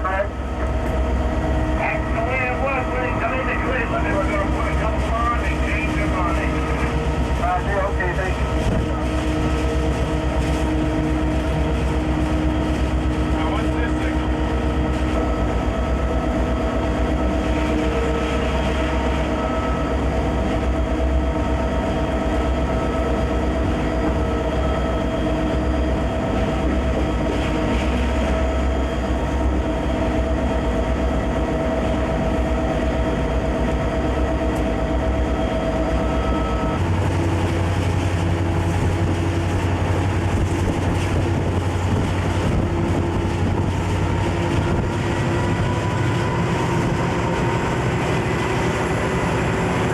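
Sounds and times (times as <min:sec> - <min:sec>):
diesel locomotive running: 0:00.0 - 0:49.9.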